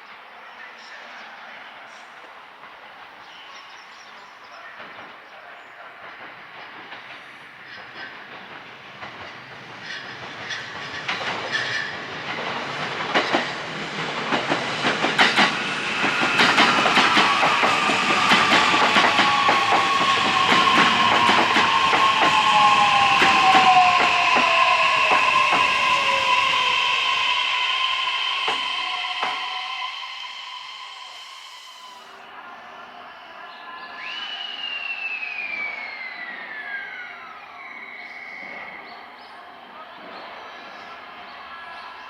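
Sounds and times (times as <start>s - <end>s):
train running past: 4.3s - 42.0s.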